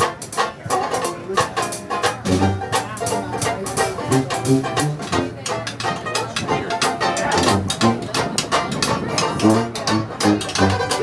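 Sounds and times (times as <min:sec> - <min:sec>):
dixieland jazz band playing: 0:00.0 - 0:11.0.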